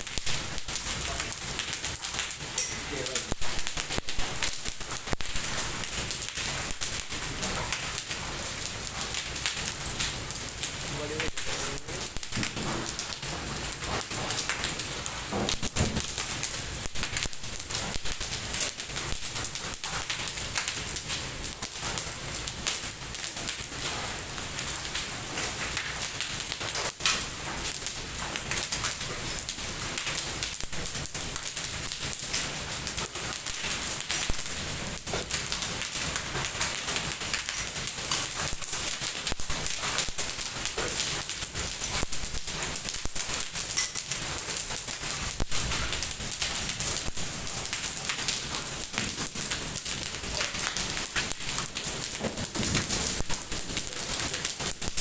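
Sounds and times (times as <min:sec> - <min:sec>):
hail and rain on hard surfaces: 0:00.0 - 0:55.0.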